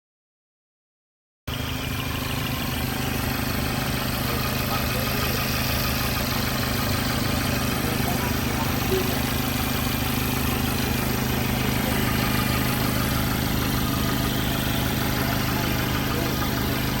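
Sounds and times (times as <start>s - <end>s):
car engine idling: 1.5s - 17.0s.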